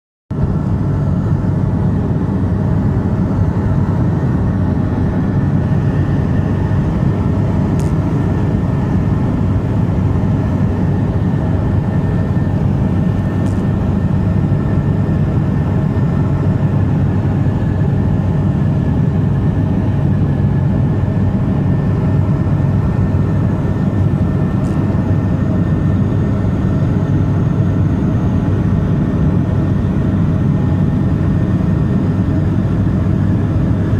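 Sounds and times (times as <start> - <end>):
propeller engines droning: 0.3 - 33.9.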